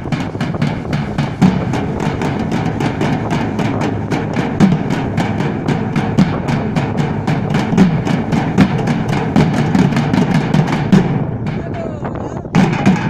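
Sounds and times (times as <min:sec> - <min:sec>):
drummers beating drums: 0:00.0 - 0:13.0.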